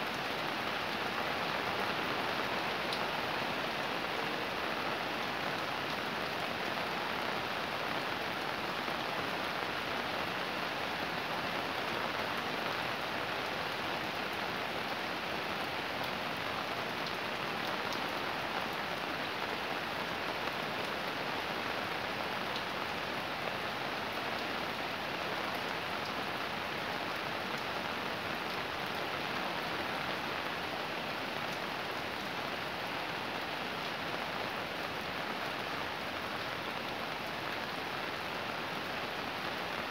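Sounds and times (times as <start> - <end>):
heavy rain on street and rooftops: 0.0 - 39.9.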